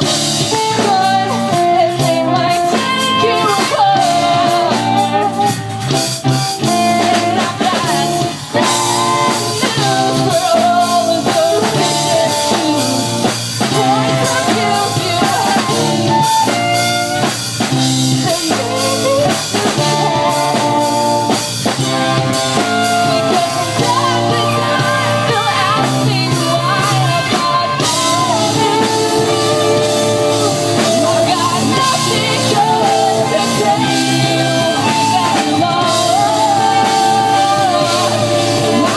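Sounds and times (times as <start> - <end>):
person singing: 0.0 - 17.4, 18.0 - 38.9
drum kit: 0.0 - 38.9
electric guitar: 0.0 - 38.9.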